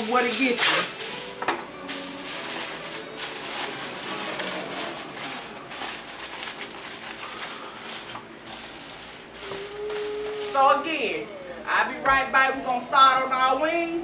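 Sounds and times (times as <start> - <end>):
aluminium foil crinkling: 0.0 - 11.3.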